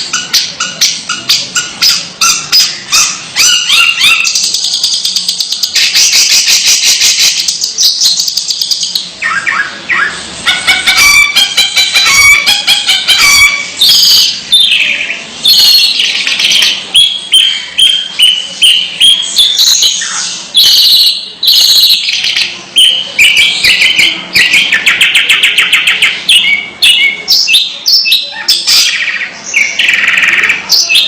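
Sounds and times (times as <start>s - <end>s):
bird singing harsh chattering trills: 0.0s - 31.0s.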